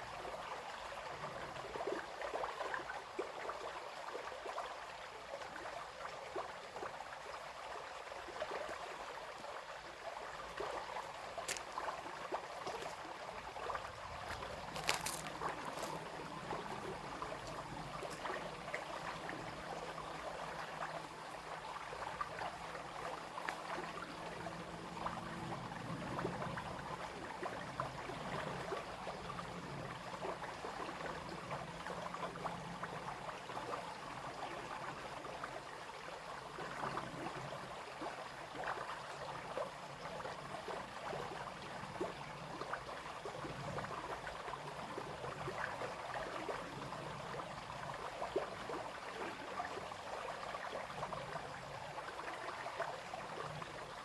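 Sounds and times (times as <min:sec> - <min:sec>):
brook babbling over stones: 0:00.0 - 0:54.0.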